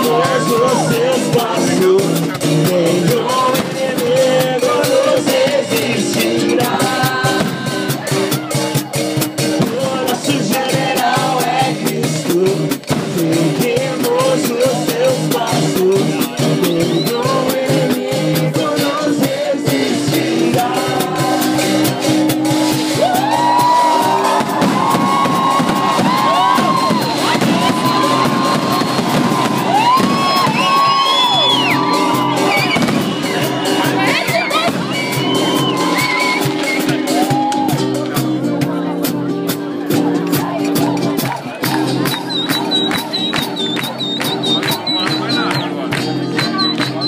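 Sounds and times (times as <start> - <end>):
singer with full band: 0.0 - 47.0.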